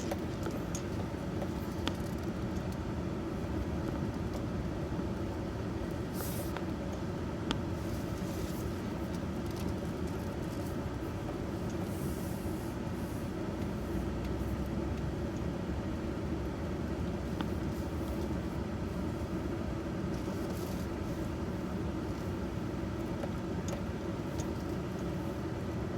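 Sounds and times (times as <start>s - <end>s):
truck engine and road rumble: 0.0s - 25.9s.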